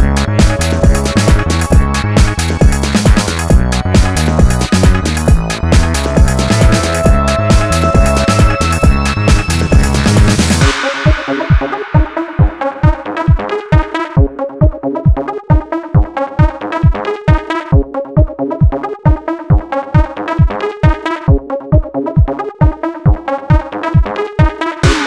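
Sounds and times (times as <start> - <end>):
kick drum: 0.0 - 25.0
synthesizer chords: 0.0 - 25.0.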